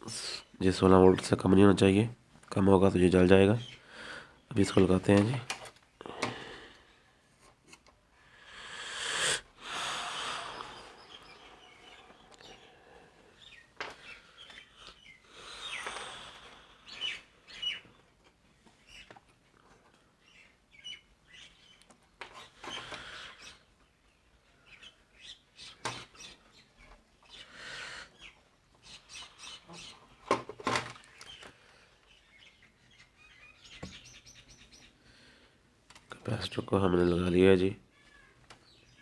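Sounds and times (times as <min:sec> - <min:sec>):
small birds chirping: 0:00.0 - 0:07.3, 0:08.0 - 0:39.0.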